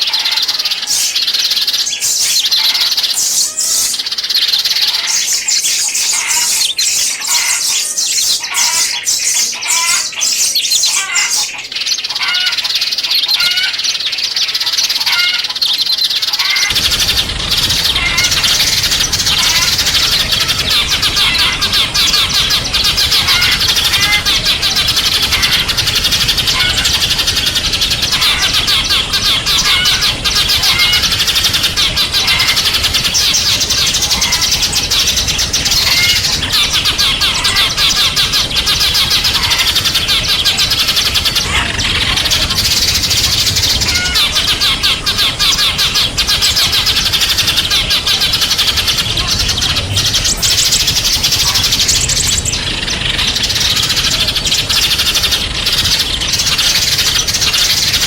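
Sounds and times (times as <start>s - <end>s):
songbirds chirping and twittering: 0.0s - 58.0s.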